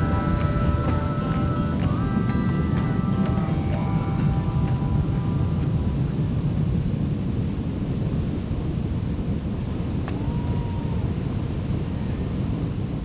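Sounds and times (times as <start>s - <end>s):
boat engine rumble: 0.0s - 13.0s
rushing water: 0.0s - 13.0s
wind on microphone: 0.0s - 13.0s.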